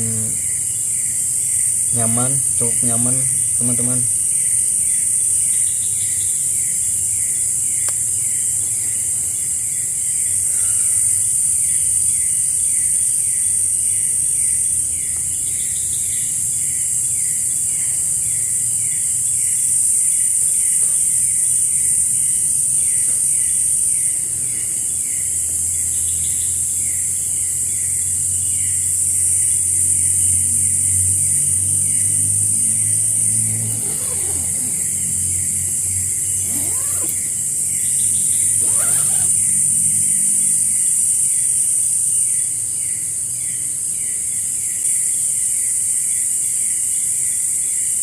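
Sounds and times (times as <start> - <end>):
insect chirp: 0.0 - 48.0
insects buzzing: 0.0 - 48.0.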